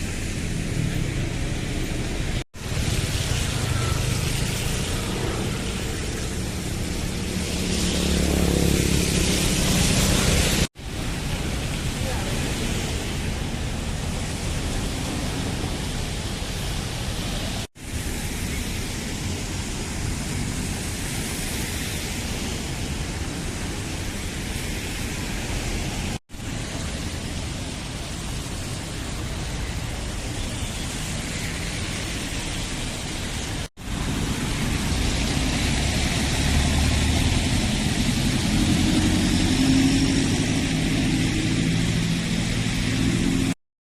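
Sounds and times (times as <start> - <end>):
road traffic noise: 0.0 - 43.6.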